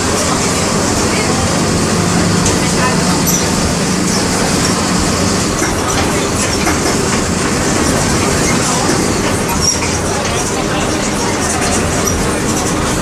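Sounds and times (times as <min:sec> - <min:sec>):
bus diesel engine rumbling: 0:00.0 - 0:13.0
clattering body and road noise: 0:00.0 - 0:13.0.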